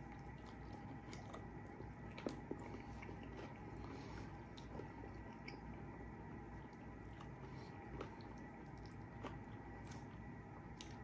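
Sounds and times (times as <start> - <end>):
chewing and biting: 0.0 - 5.8, 6.6 - 11.0
steady low hum: 0.0 - 11.0.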